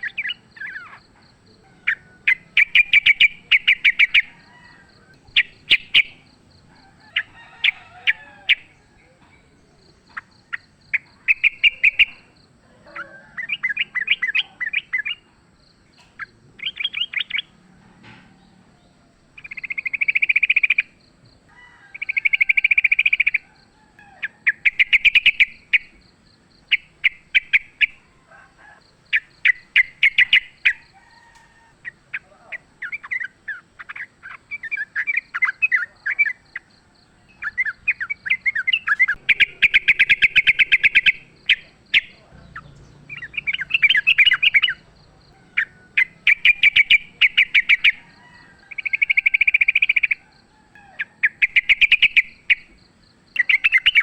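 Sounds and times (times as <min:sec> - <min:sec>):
bulbuls singing chattering phrases: 0:00.0 - 0:21.2, 0:22.0 - 0:54.0.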